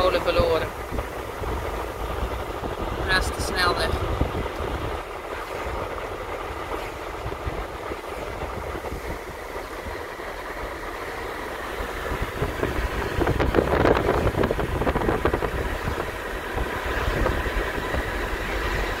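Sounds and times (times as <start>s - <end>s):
car tyres and engine rumble: 0.0s - 19.0s.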